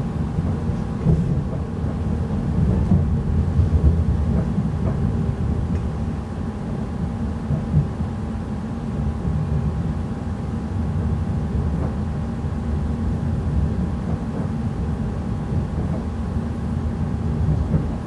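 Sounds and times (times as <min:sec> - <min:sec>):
train rumble inside carriage: 0:00.0 - 0:18.0.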